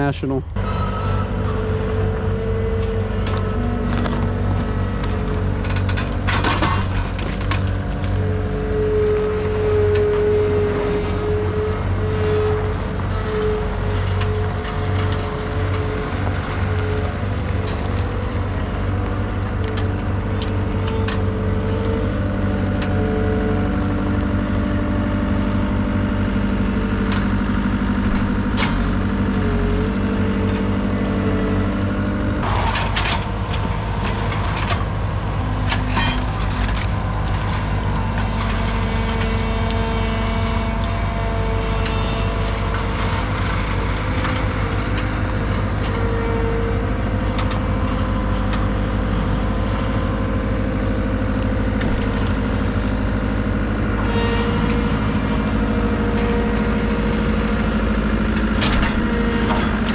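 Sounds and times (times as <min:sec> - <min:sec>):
heavy vehicle engine running: 0:00.0 - 0:59.9.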